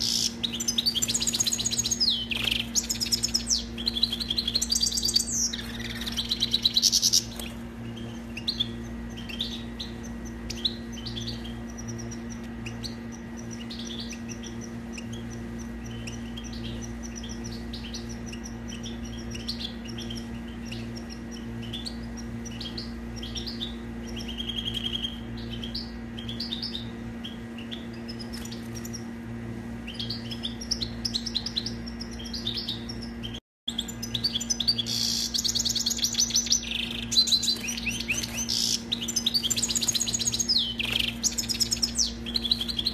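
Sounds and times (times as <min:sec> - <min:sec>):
bird singing: 0:00.0 - 0:42.9
low electrical hum: 0:00.0 - 0:42.9.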